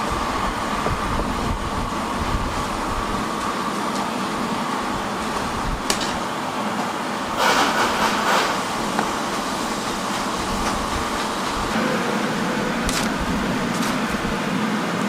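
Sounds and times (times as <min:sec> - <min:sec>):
rushing burst: 0:00.0 - 0:14.8
factory machinery hum and rumble: 0:00.0 - 0:15.0.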